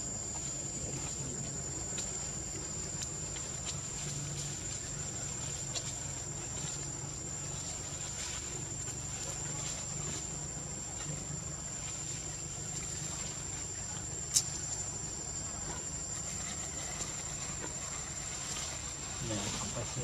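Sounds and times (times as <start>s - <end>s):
insects droning: 0.0s - 20.0s
low background rumble: 0.0s - 20.0s.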